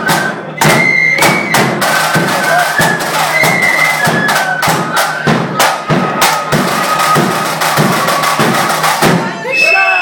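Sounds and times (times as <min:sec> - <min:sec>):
heavy drum beats: 0:00.0 - 0:09.4
flutes playing march melody: 0:00.0 - 0:10.0.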